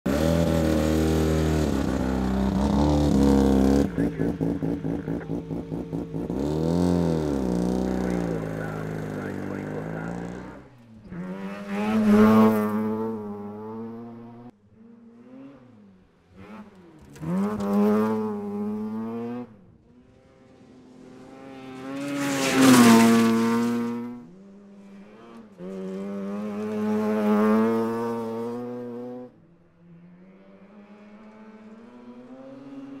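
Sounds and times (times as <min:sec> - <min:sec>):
rotary engine revving and idling: 0:00.1 - 0:33.0.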